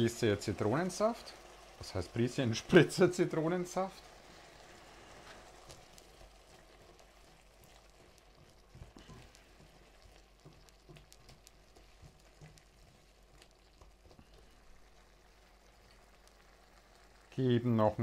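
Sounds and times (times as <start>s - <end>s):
pumpkin sizzling in a pan: 0.0s - 18.0s.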